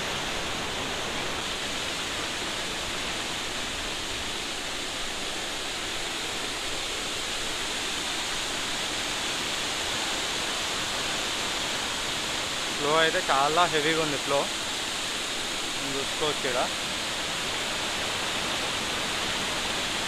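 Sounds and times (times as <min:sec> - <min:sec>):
waterfall pouring over rocks: 0:00.0 - 0:20.0.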